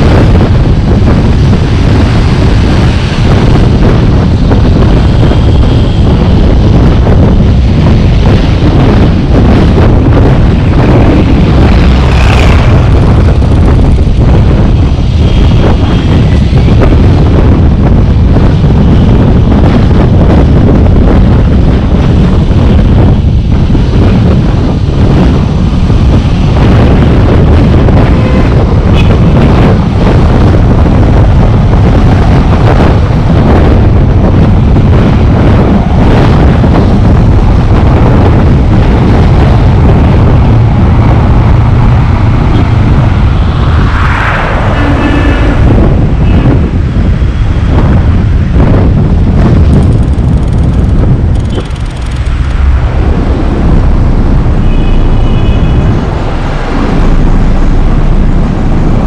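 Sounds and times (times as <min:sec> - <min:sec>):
road and traffic noise: 0:00.0 - 0:59.0
wind rumble on microphone: 0:00.0 - 0:59.0.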